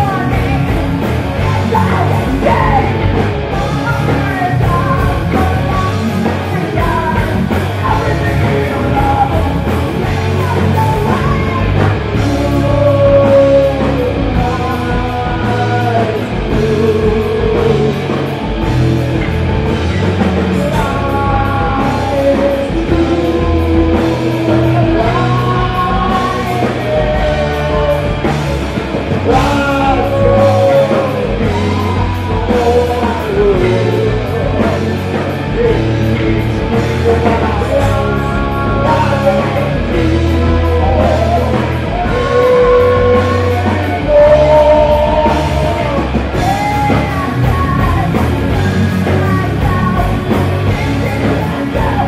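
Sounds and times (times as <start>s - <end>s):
bass guitar: 0.0s - 52.0s
drum kit: 0.0s - 52.0s
electric guitars: 0.0s - 52.0s
person singing: 0.0s - 52.0s.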